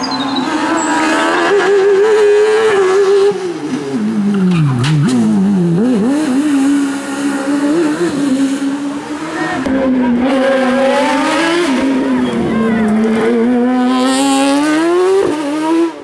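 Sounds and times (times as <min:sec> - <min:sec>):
racing car engine revving: 0:00.4 - 0:16.0.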